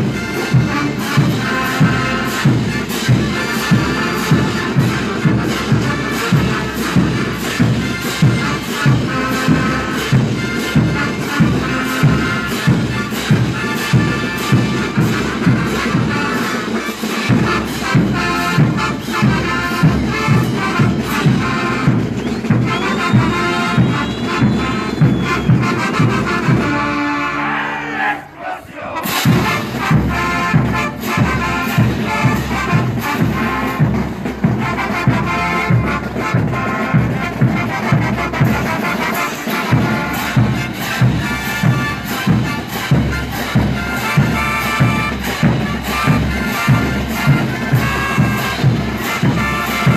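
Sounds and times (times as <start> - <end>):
brass band music with steady beat: 0.0 - 49.9.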